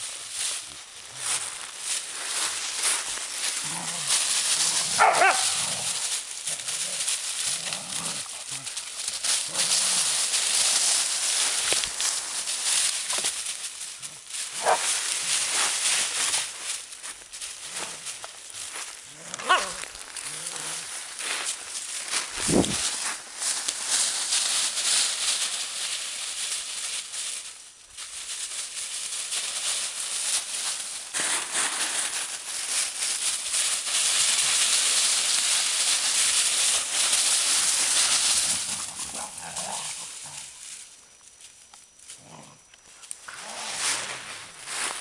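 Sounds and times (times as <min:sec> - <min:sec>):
dry leaves rustling and crunching: 0:00.0 - 0:45.0.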